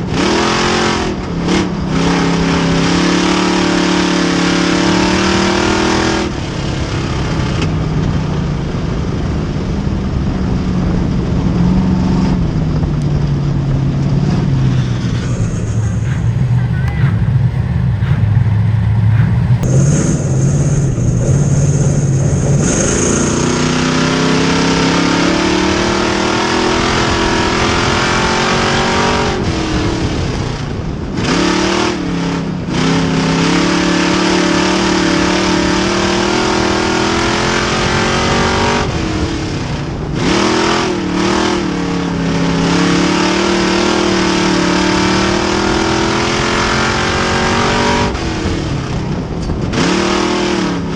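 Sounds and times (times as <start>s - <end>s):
race car engine revving: 0.0s - 8.2s, 11.8s - 50.9s.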